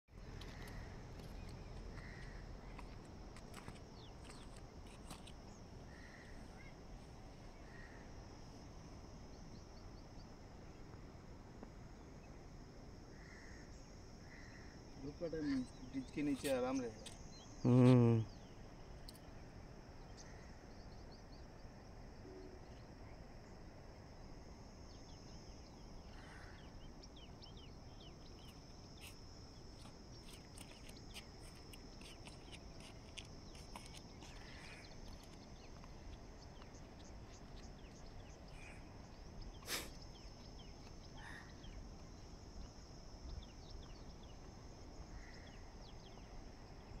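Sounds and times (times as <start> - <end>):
low background hiss: 0.2 - 47.0
high insect buzz: 7.6 - 20.7, 22.0 - 47.0.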